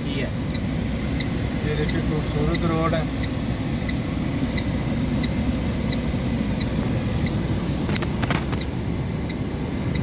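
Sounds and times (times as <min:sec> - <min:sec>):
engine idling: 0:00.0 - 0:10.0
hazard lights ticking: 0:00.5 - 0:07.4, 0:08.6 - 0:10.0.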